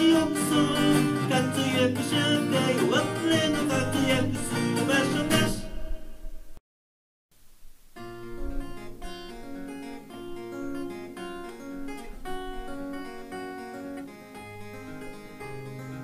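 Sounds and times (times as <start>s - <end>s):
acoustic guitar strumming: 0.0s - 6.6s, 8.0s - 16.0s.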